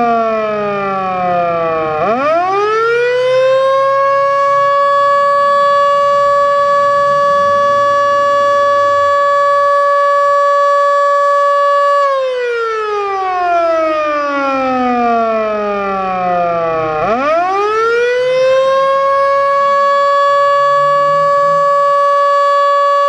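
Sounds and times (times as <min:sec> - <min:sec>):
warning siren steady tone winding down: 0:00.0 - 0:23.0.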